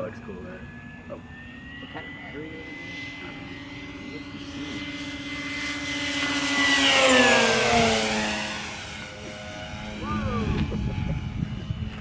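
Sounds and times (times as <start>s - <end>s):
model airplane motor and propeller whine: 0.0s - 12.0s.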